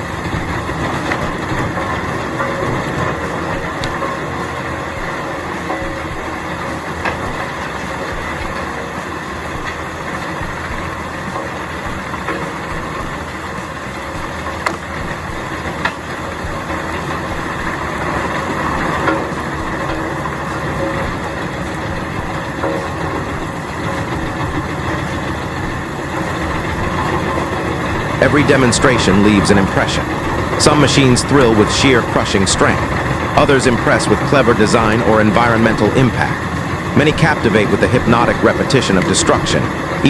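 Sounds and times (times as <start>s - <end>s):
heavy machinery running: 0.0s - 40.0s.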